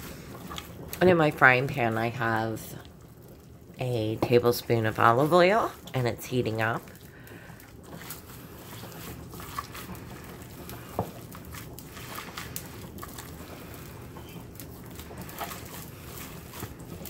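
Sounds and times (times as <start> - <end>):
hands squishing meat mixture: 0.0 - 17.0
steady low hum: 0.0 - 17.0.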